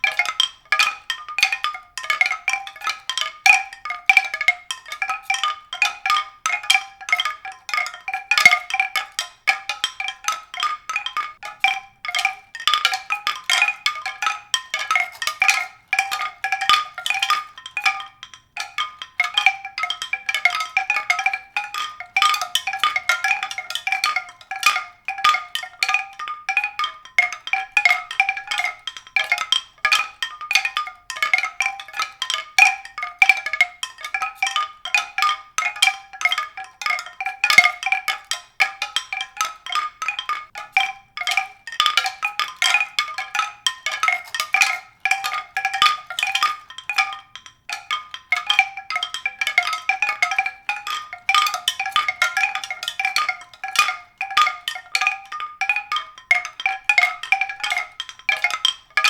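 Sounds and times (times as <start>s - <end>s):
mallet percussion music: 0.0s - 59.0s.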